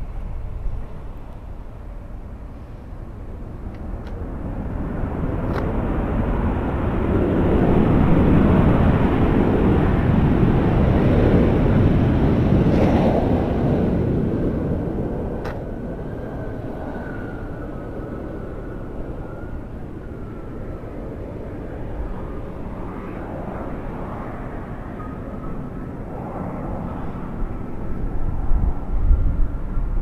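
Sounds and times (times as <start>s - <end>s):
faint steady whine: 0.0s - 12.3s, 13.2s - 30.0s
jet engine rumble: 0.0s - 30.0s.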